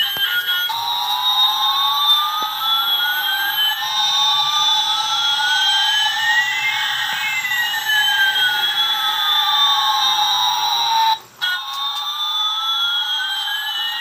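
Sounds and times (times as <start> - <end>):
toy jet whine sound effect: 0.0 - 14.0.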